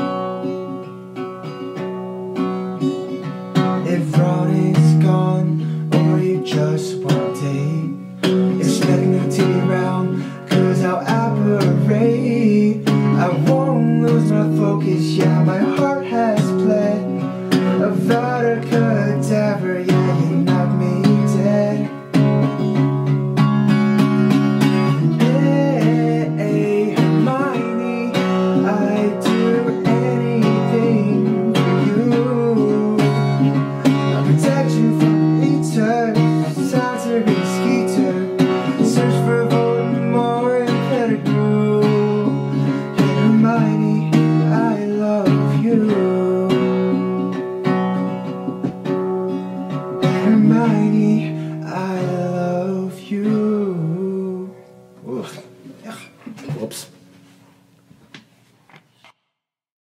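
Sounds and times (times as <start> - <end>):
acoustic guitar strumming: 0.0 - 59.2
man singing: 3.5 - 22.7, 24.6 - 47.8, 49.6 - 56.7.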